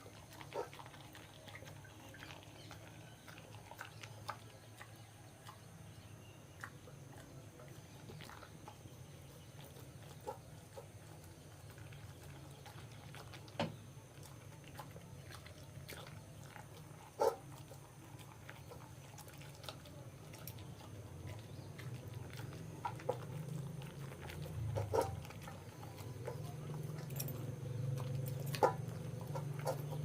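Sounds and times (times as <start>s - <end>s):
dog chewing: 0.0s - 30.0s.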